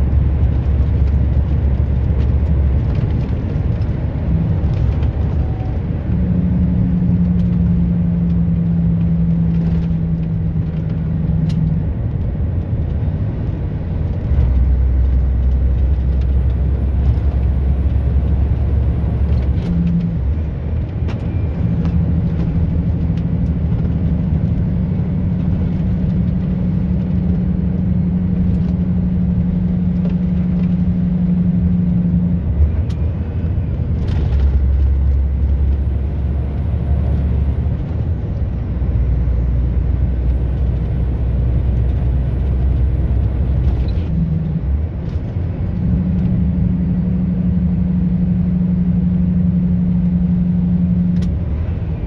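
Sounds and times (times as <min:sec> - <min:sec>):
vehicle engine and tyre noise: 0:00.0 - 0:52.0.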